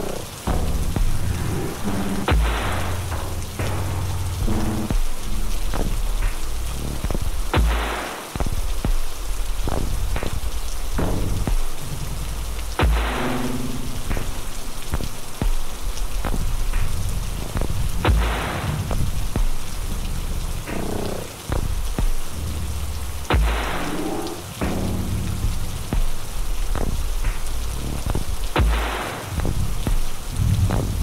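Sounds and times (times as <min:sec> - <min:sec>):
deep bass notes: 0:00.0 - 0:31.0
rain-like hiss: 0:00.0 - 0:31.0.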